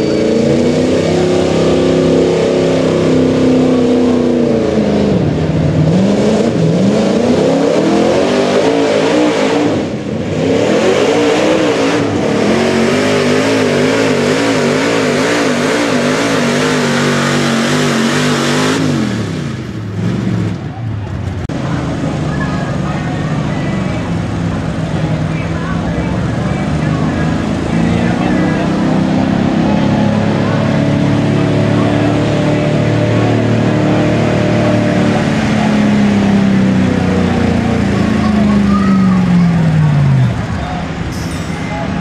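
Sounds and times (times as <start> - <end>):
pickup engine at full throttle: 0.0 - 42.0.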